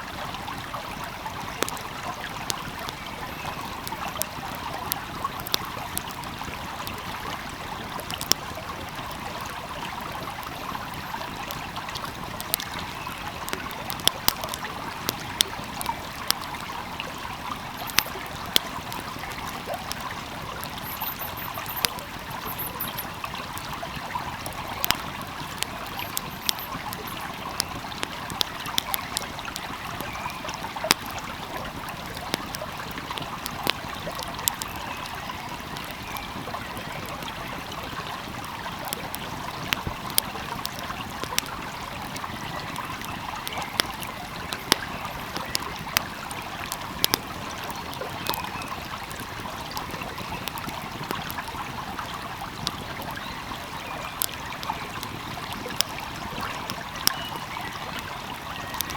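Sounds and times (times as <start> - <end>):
stream flowing: 0.0 - 58.9
wood fire crackling and popping: 0.1 - 58.9.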